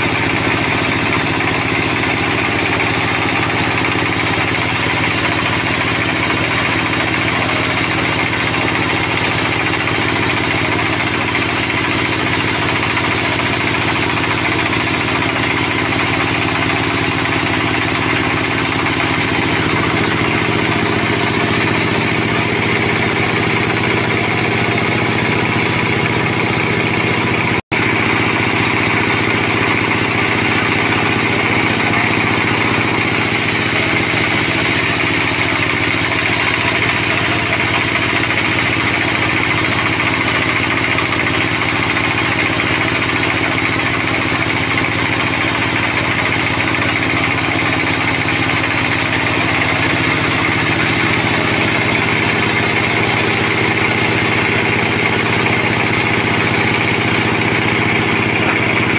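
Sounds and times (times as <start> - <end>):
band saw cutting wood: 0.0 - 58.9.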